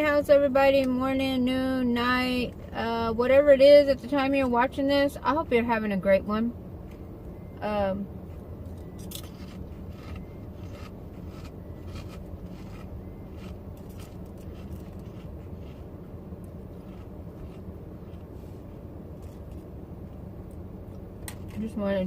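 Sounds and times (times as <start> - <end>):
car interior hum: 0.0 - 22.0.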